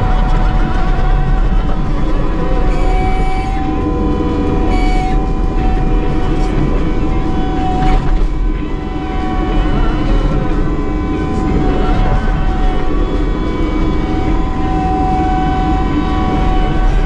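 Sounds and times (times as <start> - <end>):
diesel engine drone: 0.0 - 17.0
steady machine whine: 0.0 - 17.0.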